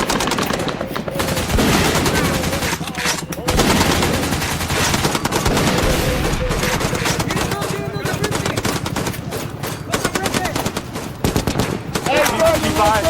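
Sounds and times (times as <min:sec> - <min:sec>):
rapid automatic gunfire: 0:00.0 - 0:13.0.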